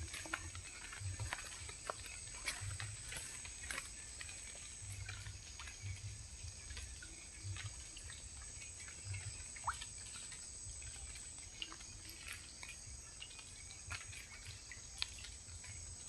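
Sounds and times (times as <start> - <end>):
faint water drips: 0.0 - 16.0.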